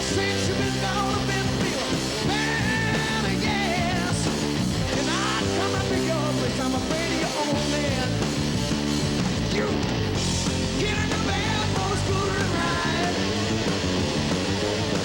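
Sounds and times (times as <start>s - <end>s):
bass guitar: 0.0s - 15.0s
distorted electric guitar bending notes: 0.0s - 15.0s
drums: 0.0s - 15.0s.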